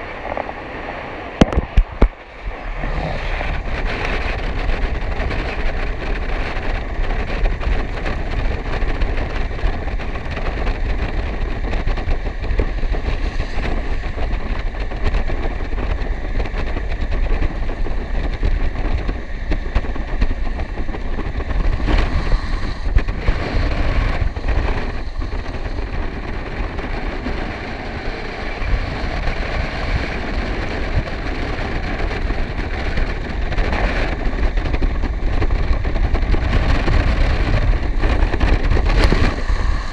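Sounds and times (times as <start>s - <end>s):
skate wheels rolling on wet asphalt: 0.0s - 39.9s
wind buffeting microphone: 0.0s - 39.9s.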